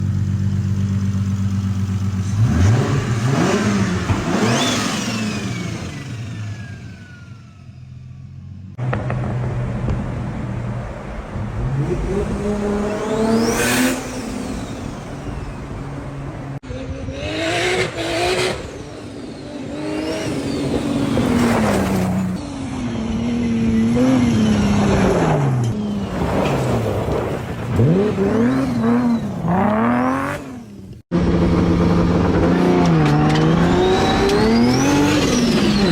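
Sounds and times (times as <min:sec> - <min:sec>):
engine idling and revving: 0:00.0 - 0:26.4, 0:27.1 - 0:35.9.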